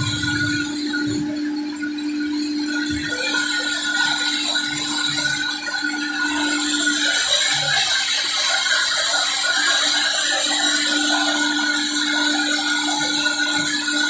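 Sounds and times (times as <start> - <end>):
woodworking machine humming: 0.0 - 14.0.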